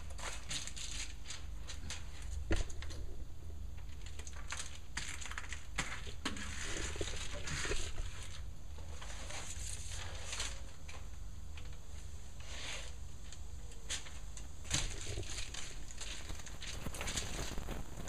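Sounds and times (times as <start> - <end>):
foil wrap crinkling and rustling: 0.0 - 3.0, 3.8 - 11.8, 13.2 - 18.0
steady low hum: 0.0 - 18.0.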